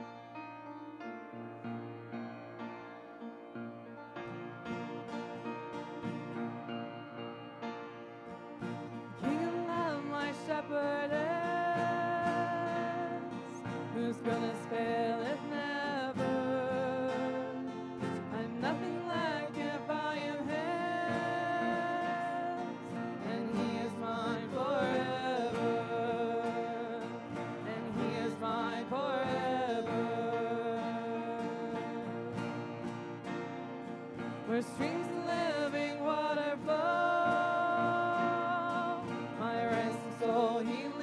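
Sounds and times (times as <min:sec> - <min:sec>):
worship song with instruments: 0:00.0 - 0:41.0.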